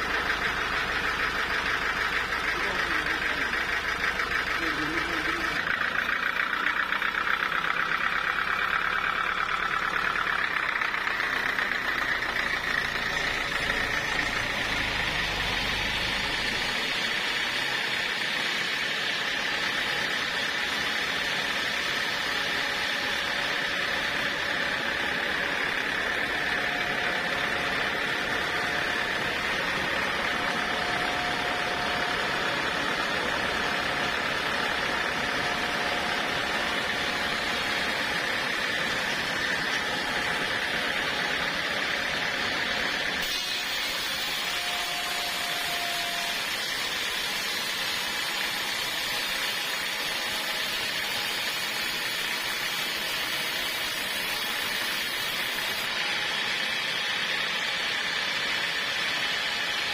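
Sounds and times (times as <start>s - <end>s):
portable sawmill running: 0.0s - 59.9s.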